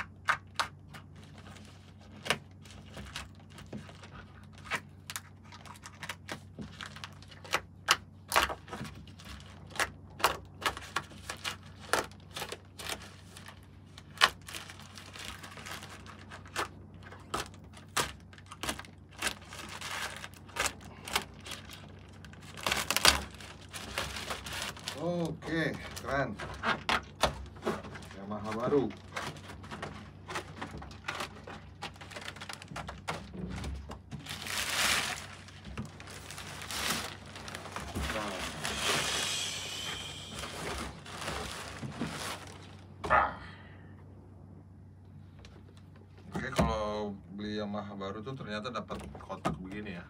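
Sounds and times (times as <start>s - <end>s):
plastic wrapping tearing: 0.0s - 42.9s.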